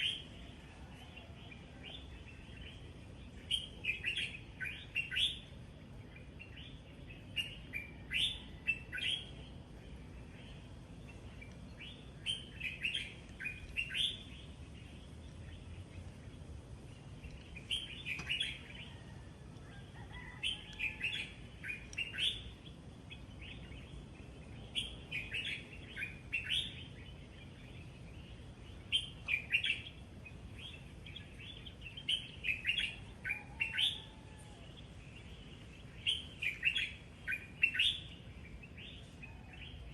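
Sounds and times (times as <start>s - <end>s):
birds chirping: 0.0s - 39.9s
low background hiss: 0.0s - 39.9s.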